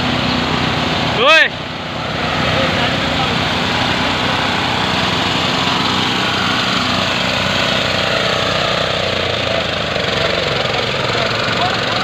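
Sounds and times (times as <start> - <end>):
fire pump engine running: 0.0 - 12.0.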